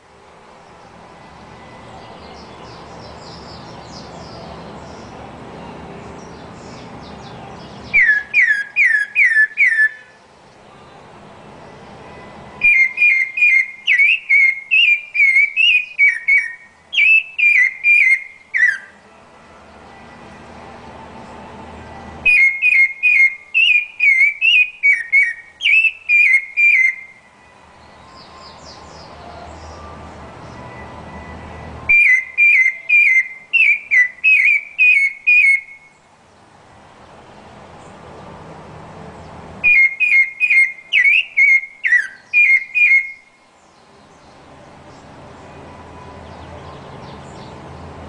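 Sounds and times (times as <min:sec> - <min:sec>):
thrush singing whistled notes: 0:00.6 - 0:36.1, 0:39.6 - 0:48.0.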